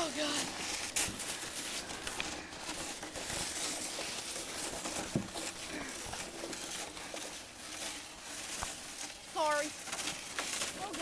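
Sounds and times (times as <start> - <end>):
sled scraping over snow: 0.0 - 11.0.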